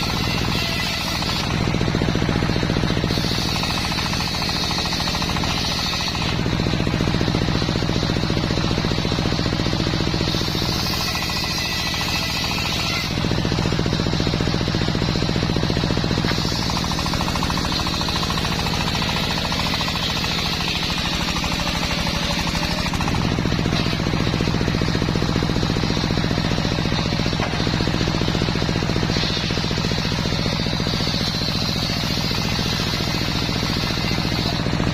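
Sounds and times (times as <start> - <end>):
circular sawmill sawing log: 0.0 - 34.9.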